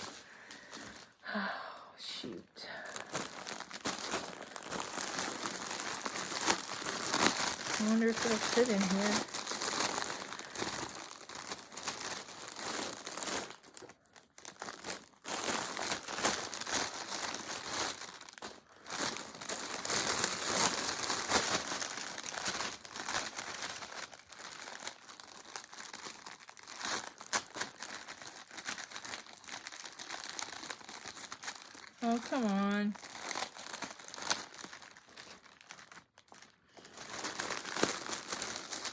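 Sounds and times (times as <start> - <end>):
plastic bags crinkling: 0.0 - 1.4, 2.2 - 38.9.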